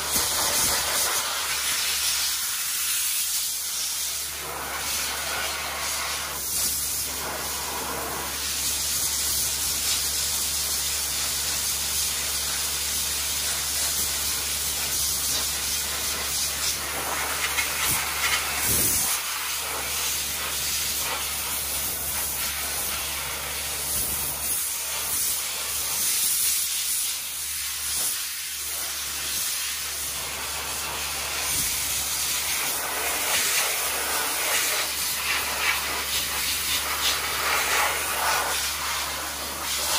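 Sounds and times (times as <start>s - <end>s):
dry ice blasting gun hissing: 0.0s - 39.9s.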